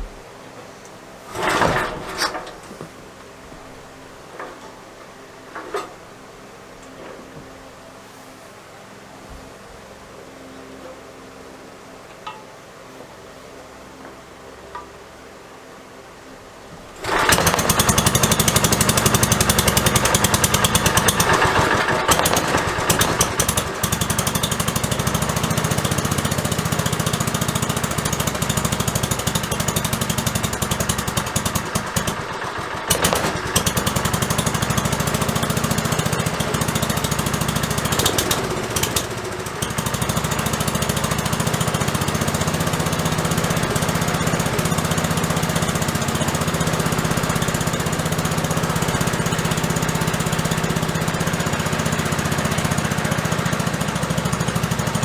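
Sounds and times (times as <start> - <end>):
single-cylinder engine puttering: 1.2 - 7.4, 16.6 - 55.0.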